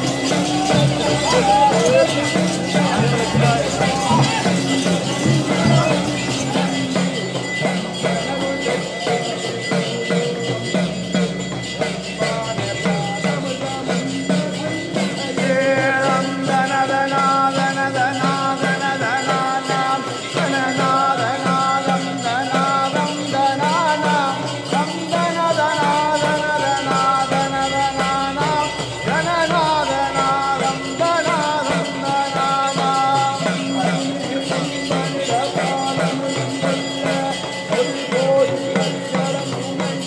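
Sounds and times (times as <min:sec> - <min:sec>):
fast shaken percussion: 0:00.0 - 0:40.0.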